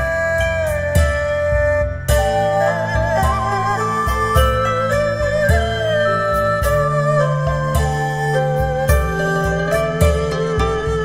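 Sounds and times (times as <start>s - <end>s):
slow melody over soft beat: 0.0s - 11.0s.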